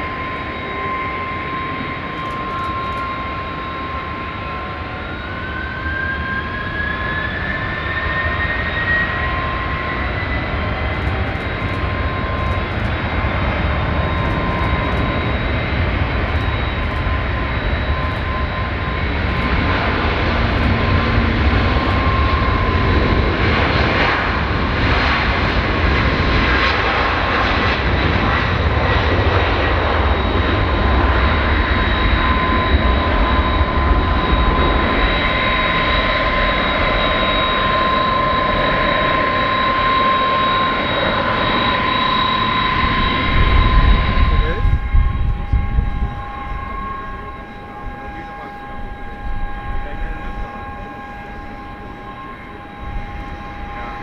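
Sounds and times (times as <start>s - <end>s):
jet engines roaring with whine: 0.0s - 54.0s.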